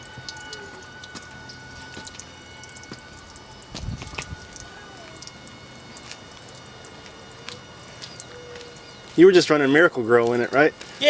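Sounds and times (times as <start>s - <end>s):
coolant dripping onto ground: 0.0s - 11.0s.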